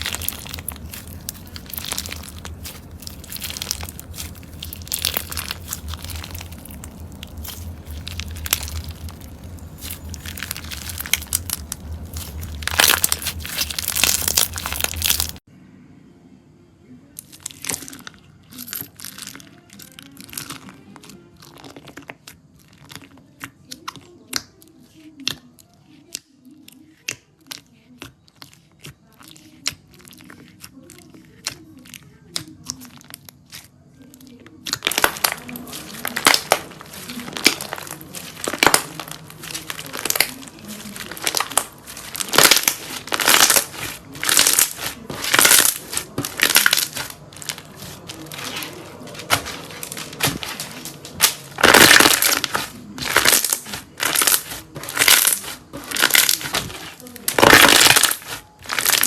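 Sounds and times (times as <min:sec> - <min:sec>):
slime crackling and popping: 0:00.0 - 0:15.4, 0:27.0 - 0:59.0.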